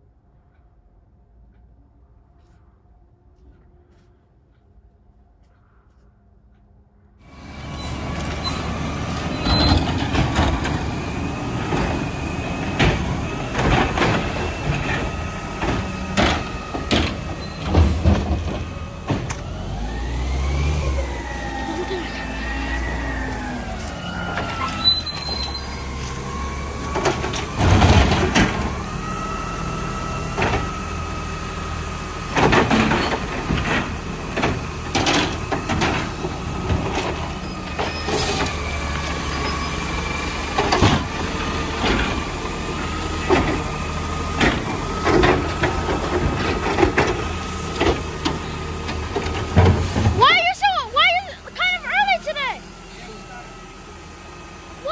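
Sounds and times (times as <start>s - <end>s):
garbage truck whine: 7.2s - 54.9s.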